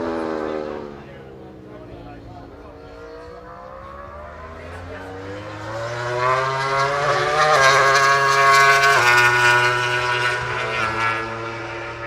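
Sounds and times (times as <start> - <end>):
racing motorcycle passing at speed: 0.0 - 12.0.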